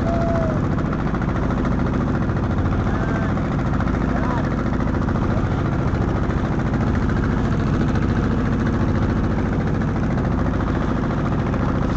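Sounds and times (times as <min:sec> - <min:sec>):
boat engine running: 0:00.0 - 0:11.9.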